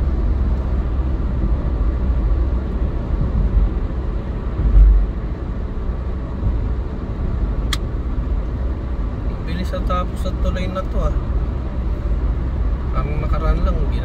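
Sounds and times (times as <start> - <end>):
car road rumble inside cabin: 0.0 - 14.0.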